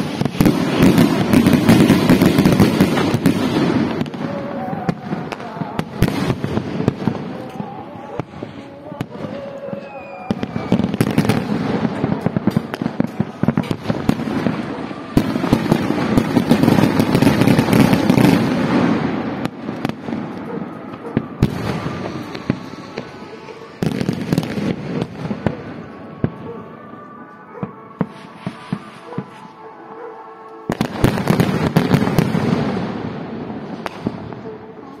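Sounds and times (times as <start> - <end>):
firework bangs: 0.0 - 34.7
fireworks crackling and popping: 0.0 - 35.0.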